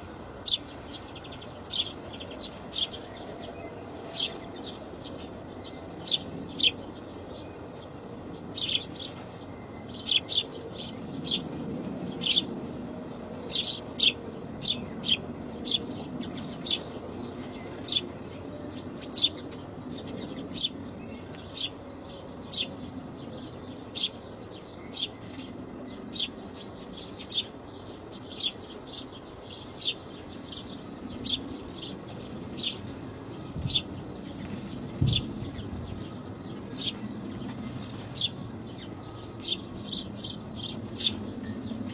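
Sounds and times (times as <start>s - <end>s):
birds chirping: 0.0s - 41.9s
low steady background noise: 0.0s - 41.9s.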